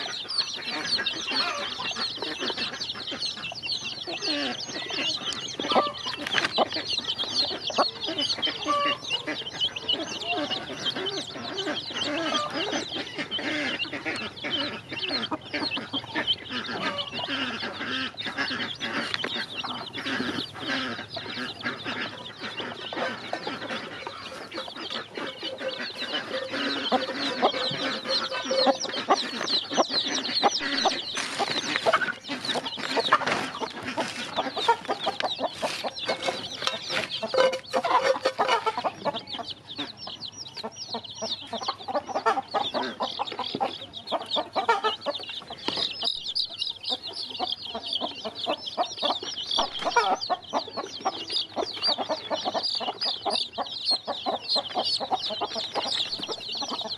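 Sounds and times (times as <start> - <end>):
chicks peeping: 0.0 - 56.9.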